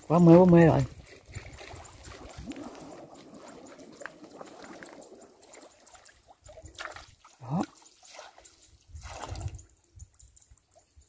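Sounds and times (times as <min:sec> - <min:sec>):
shallow water splashing: 0:00.0 - 0:09.7
water dripping: 0:00.1 - 0:11.0.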